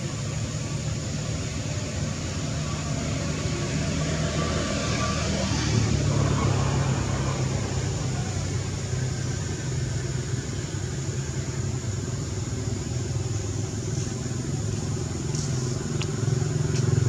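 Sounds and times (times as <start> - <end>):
motor engine droning: 0.0 - 17.0.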